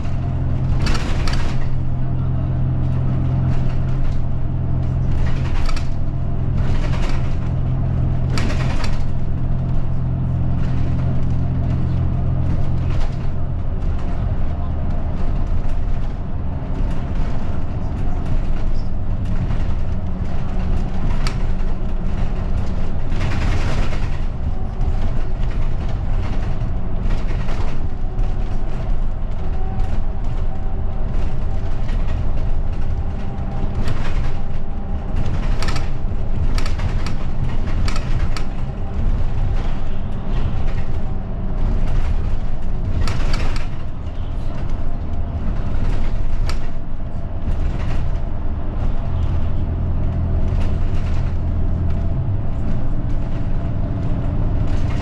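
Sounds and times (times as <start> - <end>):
bus engine drone: 0.0 - 55.0
rattles and knocks from bus body: 0.0 - 55.0
road rumble: 0.0 - 55.0.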